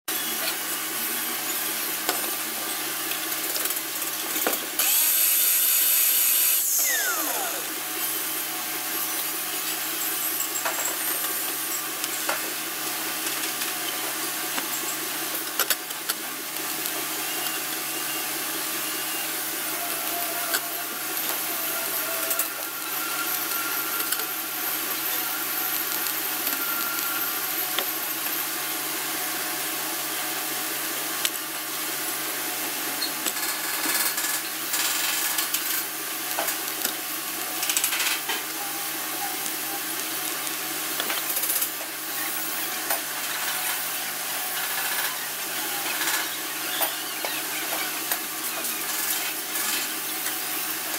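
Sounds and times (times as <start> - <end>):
welding hiss and hum: 0.1 - 50.9
workshop background noise: 0.1 - 50.9
welding crackling: 0.5 - 30.0, 33.0 - 50.9.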